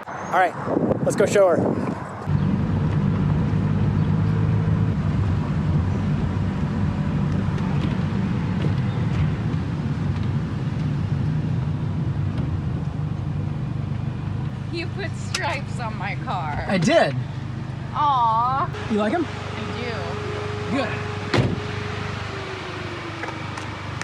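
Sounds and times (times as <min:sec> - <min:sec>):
car engine running: 0:02.2 - 0:24.0.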